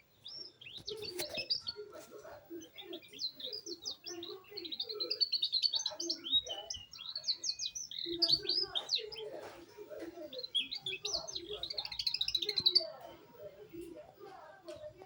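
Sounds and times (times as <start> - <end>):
canary chirping and trilling: 0.0 - 15.0.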